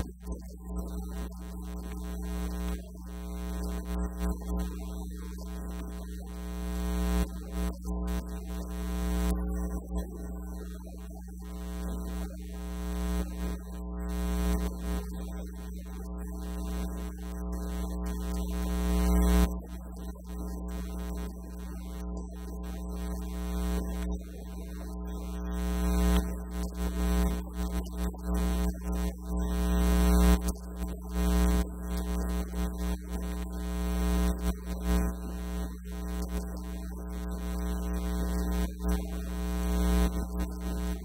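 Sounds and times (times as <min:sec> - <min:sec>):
electrical mains hum: 0:00.0 - 0:41.0.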